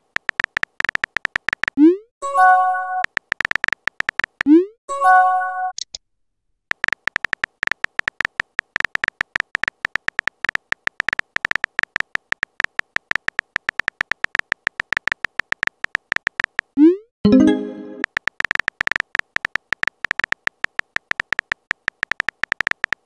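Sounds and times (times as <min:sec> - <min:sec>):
phone keyboard typing clicks: 0:00.0 - 0:01.8, 0:03.0 - 0:04.6, 0:06.7 - 0:16.8, 0:18.0 - 0:23.0.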